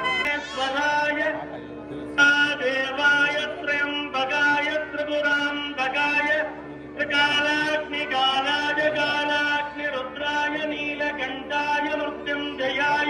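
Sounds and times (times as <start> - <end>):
devotional chanting: 0.0 - 13.0.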